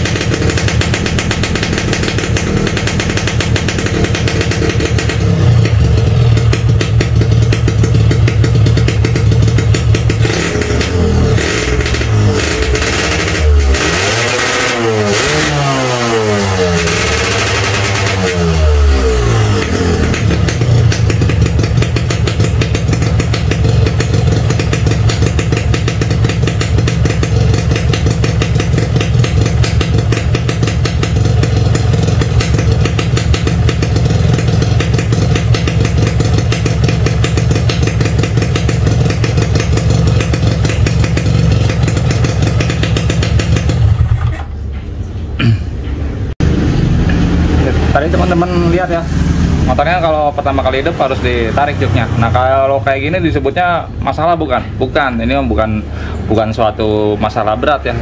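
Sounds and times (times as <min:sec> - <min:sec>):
two-stroke engine revving: 0:00.0 - 0:44.5, 0:46.4 - 0:53.7.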